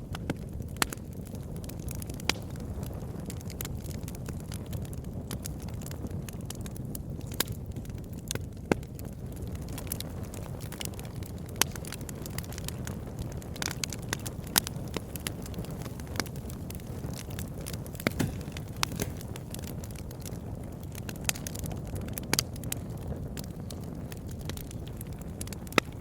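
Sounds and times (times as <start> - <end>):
burning wood crackling and popping: 0.0 - 26.0
low rumble of flames: 0.0 - 26.0.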